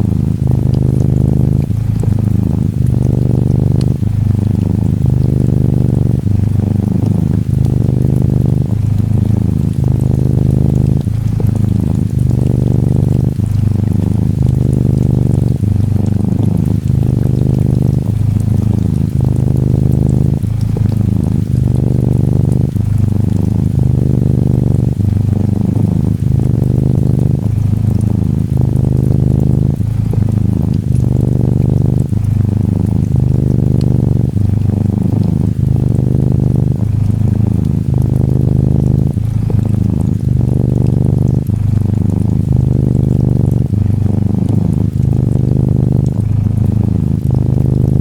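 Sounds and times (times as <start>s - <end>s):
faint rain pattering: 0.0s - 48.0s
kitten purring: 0.0s - 48.0s.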